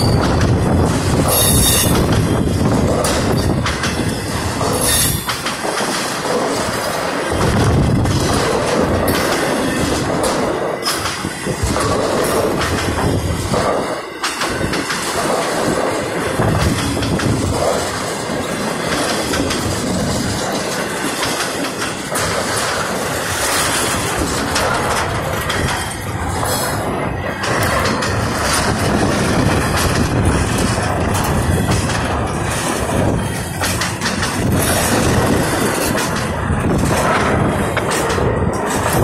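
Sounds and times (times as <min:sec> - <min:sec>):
freight train rumbling past: 0:00.0 - 0:39.0
train wheels clicking: 0:00.0 - 0:39.0.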